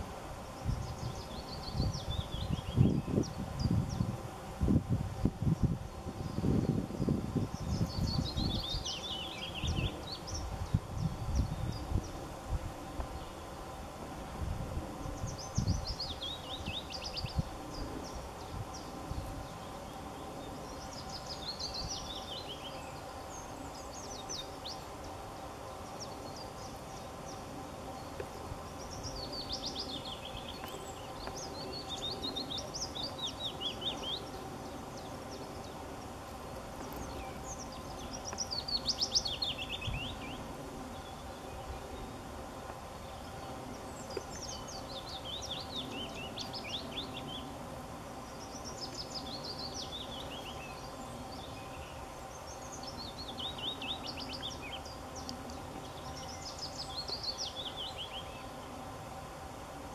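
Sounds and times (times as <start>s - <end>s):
songbird singing falling phrases: 0.0s - 4.2s, 5.2s - 12.2s, 15.0s - 47.6s, 48.2s - 58.7s
faint steady background hum: 0.0s - 59.9s.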